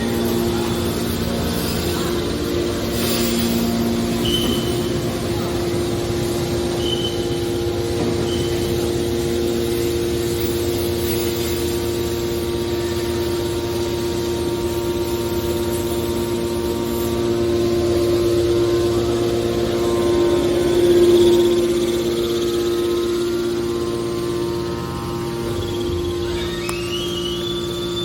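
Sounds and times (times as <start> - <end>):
baler motor and hydraulic pump: 0.0 - 28.0.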